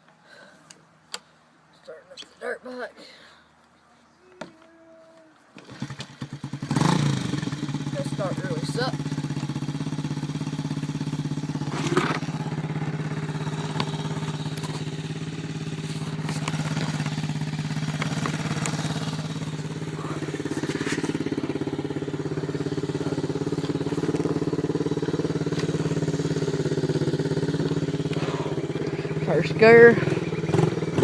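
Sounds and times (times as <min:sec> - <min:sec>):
dirt bike engine idling: 0:05.6 - 0:31.0.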